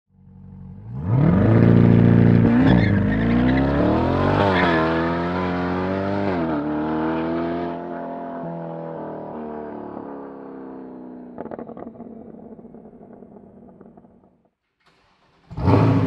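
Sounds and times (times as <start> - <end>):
car engine accelerating with upshifts: 0.2 - 14.3, 15.4 - 16.0.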